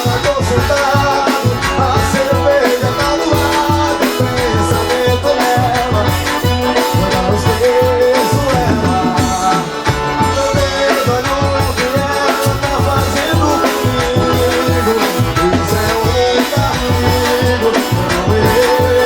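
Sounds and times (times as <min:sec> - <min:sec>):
accordion melody: 0:00.0 - 0:19.0
thumping bass beat: 0:00.0 - 0:19.0.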